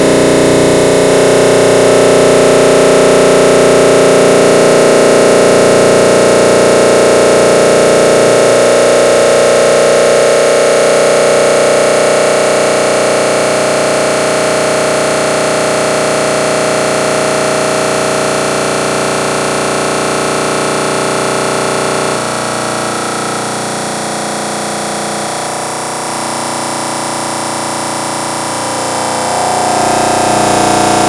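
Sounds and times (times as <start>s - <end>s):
distorted electronic drone: 0.0s - 31.0s.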